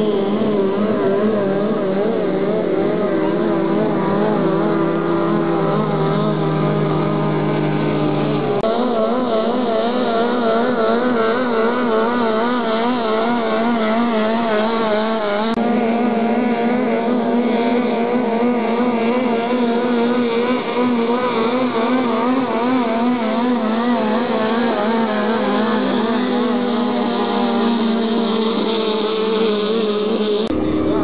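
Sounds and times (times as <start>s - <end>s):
powerboat engine at high revs: 0.0s - 31.0s.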